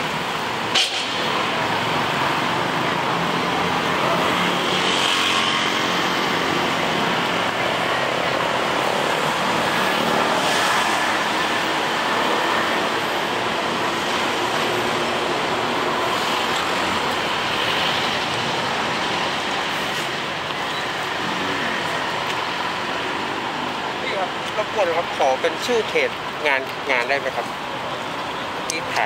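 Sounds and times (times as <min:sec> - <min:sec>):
road traffic noise: 0:00.0 - 0:29.0.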